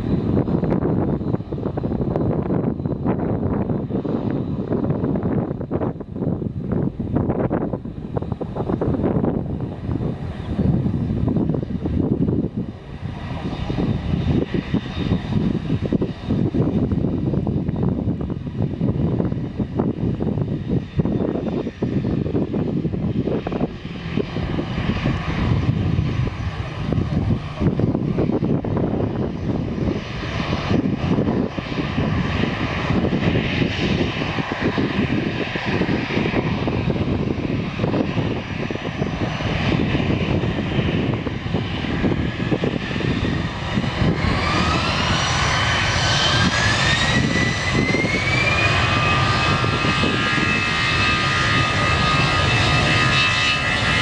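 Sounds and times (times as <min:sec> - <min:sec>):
jet engine whine rising: 0:00.0 - 0:54.0
jet engines rumbling: 0:00.0 - 0:54.0.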